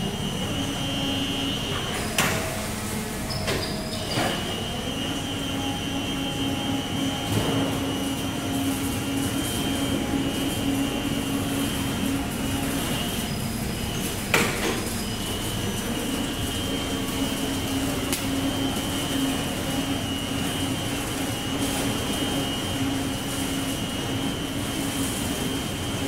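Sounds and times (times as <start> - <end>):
high machine whine: 0.0 - 26.0
plant machinery drone: 0.0 - 26.0.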